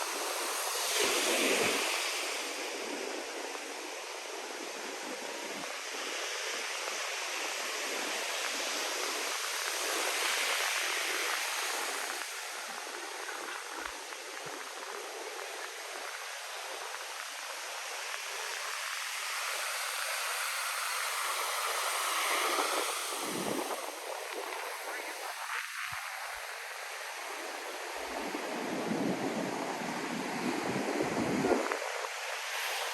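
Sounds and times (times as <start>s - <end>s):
ocean waves breaking on beach: 0.0s - 32.9s.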